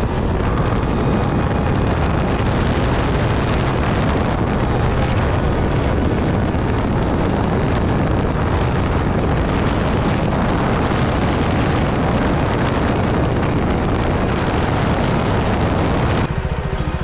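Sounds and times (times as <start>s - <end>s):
loud motorcycle engine running: 0.0s - 17.0s.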